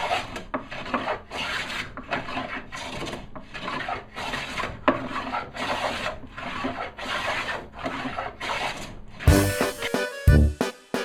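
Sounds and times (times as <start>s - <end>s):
hand plane strokes on wood: 0.0s - 9.6s.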